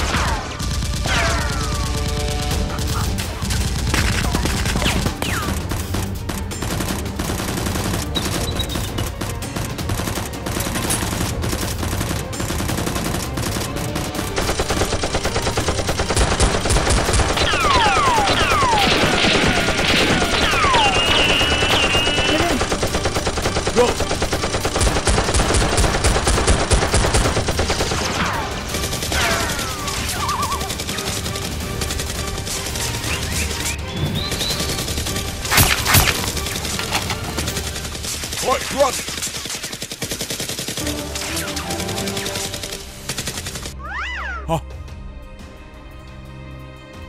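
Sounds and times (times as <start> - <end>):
rapid gunfire: 0.0 - 43.8.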